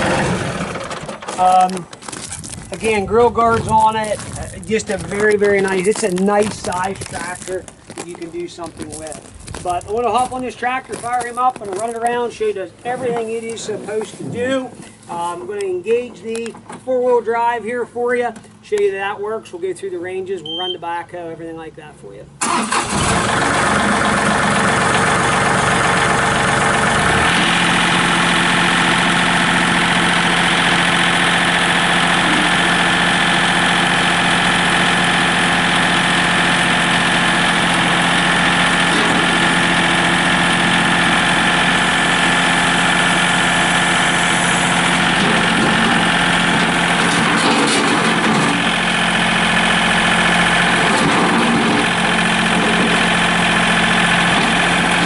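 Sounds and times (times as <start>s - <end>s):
tractor diesel engine idling: 0.0s - 1.9s, 2.7s - 13.4s, 22.4s - 55.0s.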